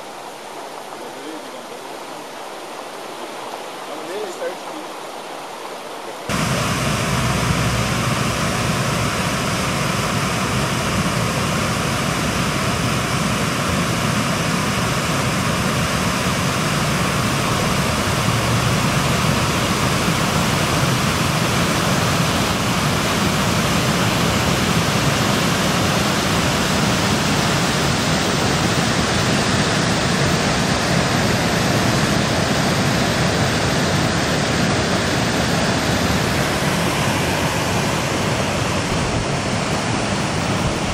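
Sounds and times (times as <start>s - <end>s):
floodwater rushing down creek: 0.0s - 40.9s.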